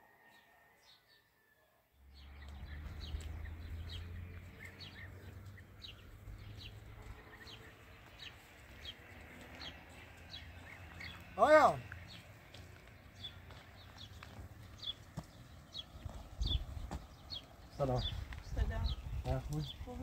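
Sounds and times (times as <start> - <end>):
small birds chirping: 2.0 - 20.0.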